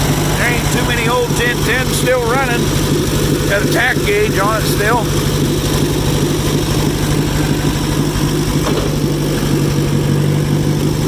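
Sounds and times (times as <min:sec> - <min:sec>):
dozer engine idling: 0:00.0 - 0:11.0.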